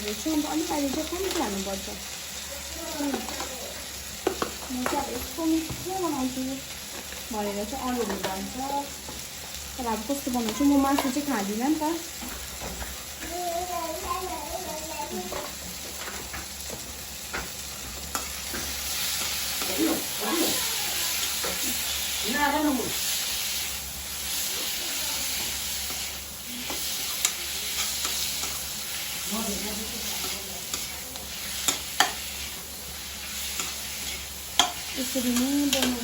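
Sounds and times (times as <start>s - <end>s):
gravy sizzling in oil: 0.0s - 36.0s.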